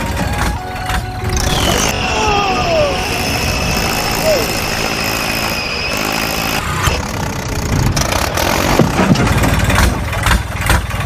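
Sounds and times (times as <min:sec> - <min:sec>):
engine running and chugging: 0:00.0 - 0:11.0.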